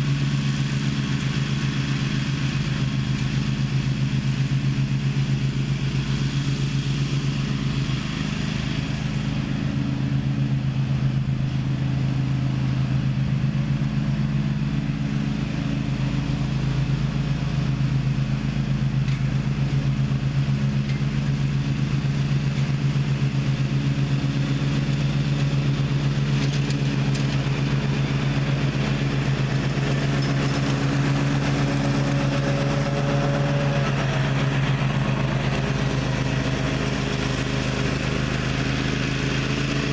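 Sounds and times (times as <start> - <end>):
mower blades mulching pine straw: 0.0 - 39.9
mower engine running: 0.0 - 39.9.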